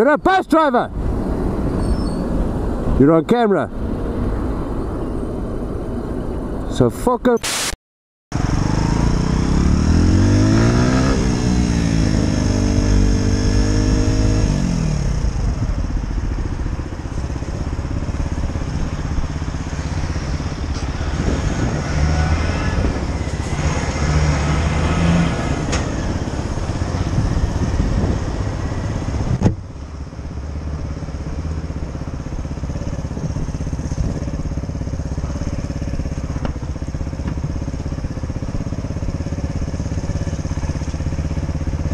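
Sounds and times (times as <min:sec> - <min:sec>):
motorcycle engine: 0:08.3 - 0:41.9.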